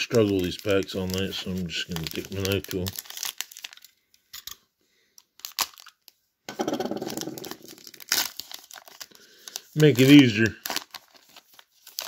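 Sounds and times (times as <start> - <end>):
wrapper tearing and crinkling: 0.0 - 4.2, 5.2 - 6.2, 6.8 - 12.0.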